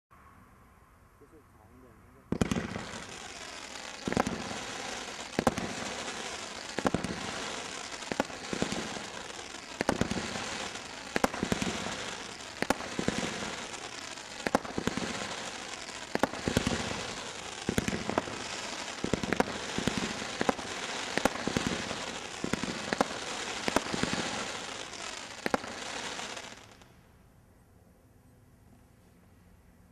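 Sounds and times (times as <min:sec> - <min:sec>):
firework crackle: 0:02.3 - 0:27.0.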